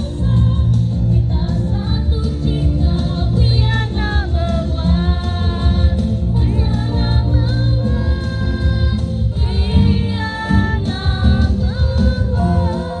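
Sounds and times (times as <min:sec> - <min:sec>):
accompaniment with steady bass: 0:00.0 - 0:13.0.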